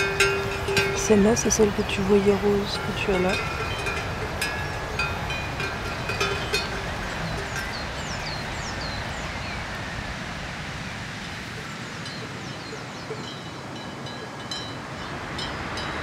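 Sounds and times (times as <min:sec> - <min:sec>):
small birds chirping: 0:00.0 - 0:09.8, 0:11.6 - 0:16.0.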